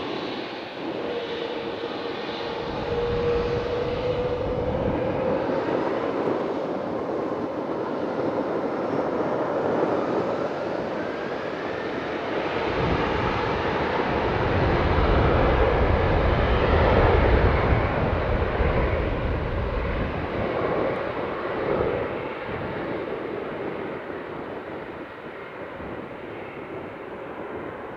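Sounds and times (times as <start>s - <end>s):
jet engines passing by: 0.0s - 27.9s.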